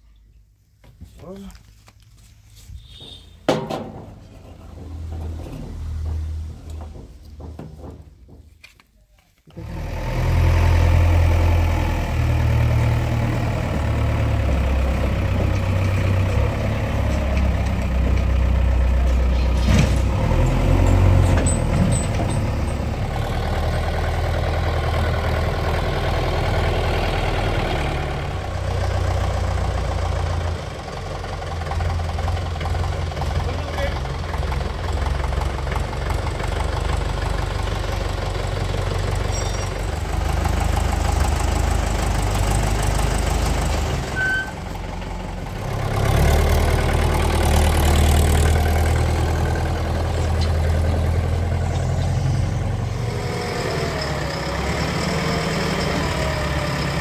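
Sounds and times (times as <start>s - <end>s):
diesel engine idling: 3.0s - 8.4s, 9.5s - 57.0s.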